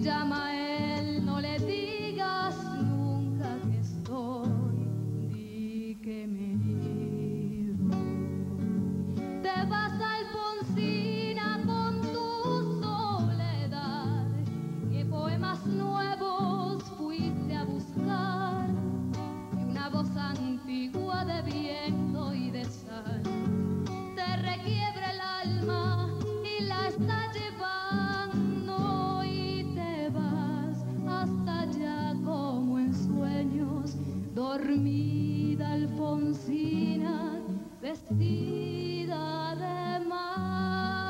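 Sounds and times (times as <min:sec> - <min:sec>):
acoustic guitar: 0:00.0 - 0:41.0
woman singing with vibrato: 0:00.0 - 0:41.0.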